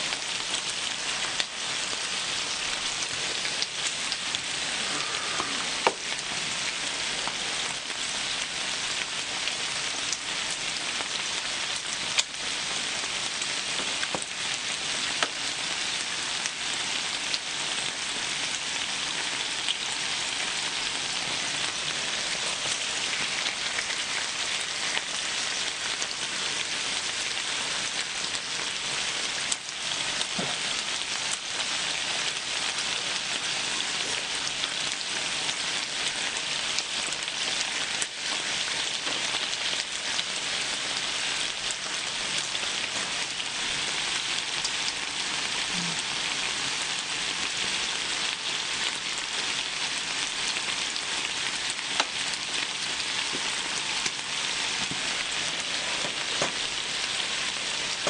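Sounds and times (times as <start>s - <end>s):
meat sizzling on a griddle: 0.0s - 58.0s.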